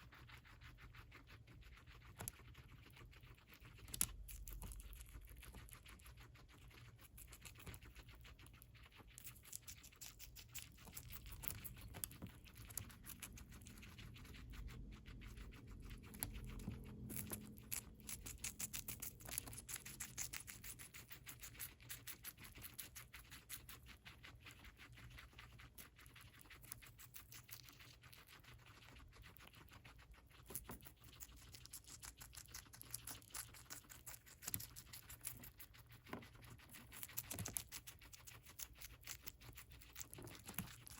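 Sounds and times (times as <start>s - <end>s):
guinea pig chewing lettuce: 0.0s - 40.9s.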